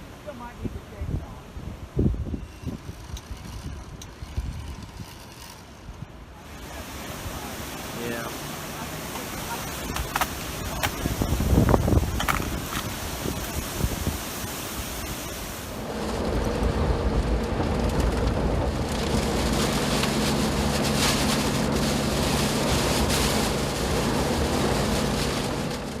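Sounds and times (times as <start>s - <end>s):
hurricane wind and rain: 0.0s - 26.0s
steady low hum: 2.4s - 26.0s.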